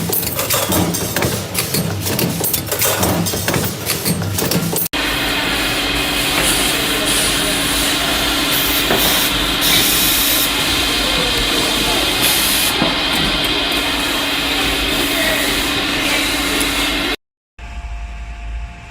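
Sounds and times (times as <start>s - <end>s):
machinery hiss: 0.0s - 17.2s
machinery hum: 0.0s - 18.9s.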